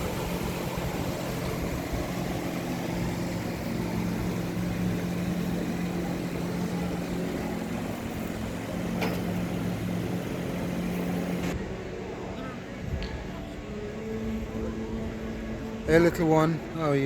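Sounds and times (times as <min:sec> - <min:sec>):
engine humming: 0:00.0 - 0:16.8.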